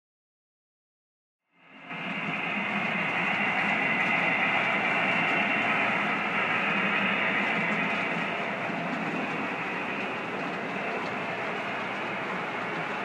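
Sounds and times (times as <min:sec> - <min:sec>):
model train wheels rumbling on track: 0:01.7 - 0:13.0.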